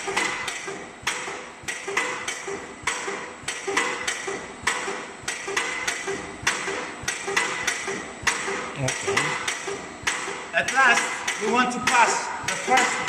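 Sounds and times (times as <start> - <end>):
machine knocking with ringing tone: 0.0 - 13.0.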